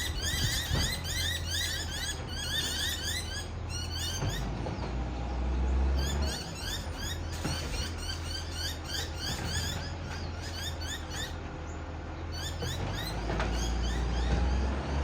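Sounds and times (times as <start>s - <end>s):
low engine rumble: 0.0s - 15.0s
small birds chirping: 0.0s - 15.0s.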